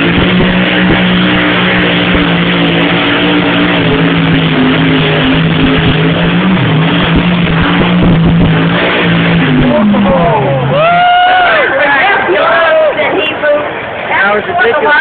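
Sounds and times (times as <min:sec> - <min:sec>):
tractor engine running flat out: 0:00.0 - 0:12.8.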